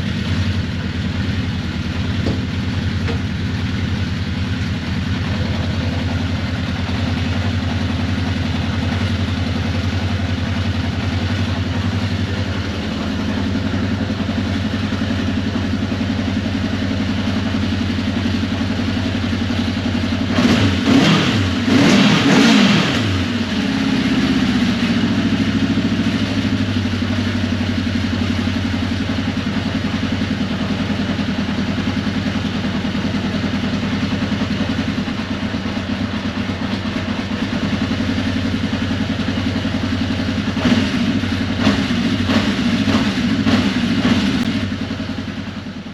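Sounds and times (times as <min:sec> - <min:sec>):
motorcycle engine idling: 0:00.0 - 0:45.9.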